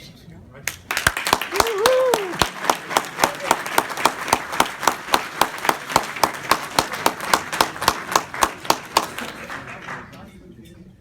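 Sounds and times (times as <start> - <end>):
audience clapping: 0.7 - 10.4
close rhythmic hand clapping: 0.7 - 10.4.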